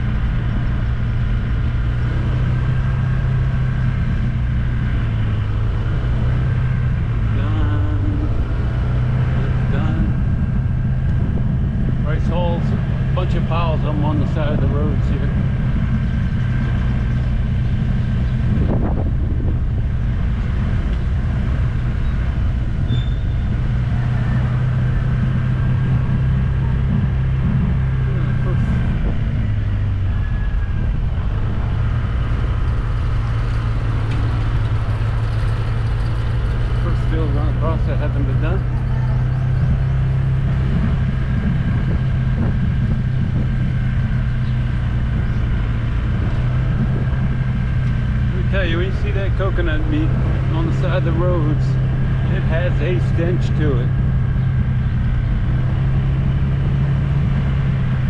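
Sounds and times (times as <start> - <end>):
road noise: 0.0 - 58.0
vehicle engine droning: 0.0 - 58.0.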